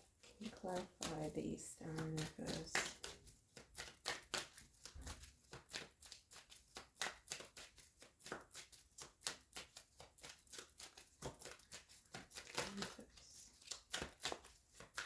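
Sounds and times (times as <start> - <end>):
cards being shuffled by hand: 0.0 - 15.0.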